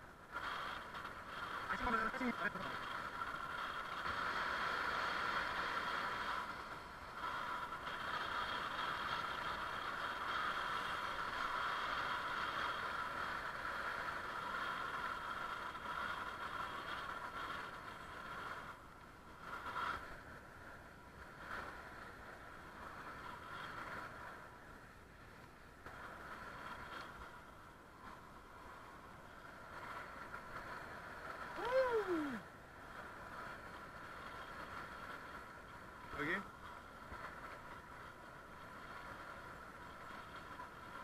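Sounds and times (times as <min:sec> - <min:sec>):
light bicycle rattle: 0:00.0 - 0:31.6, 0:32.3 - 0:41.0
bicycle tyres rolling on pavement: 0:00.0 - 0:41.0.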